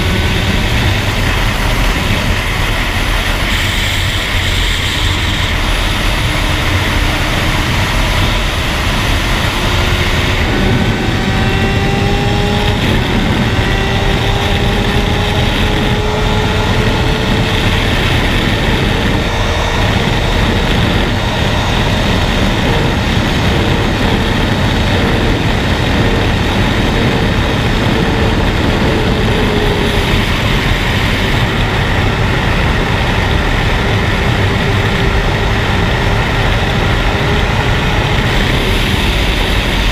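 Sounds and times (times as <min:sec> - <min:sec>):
motorcycle engine revving: 0:00.0 - 0:39.9
wind rumble: 0:00.0 - 0:39.9.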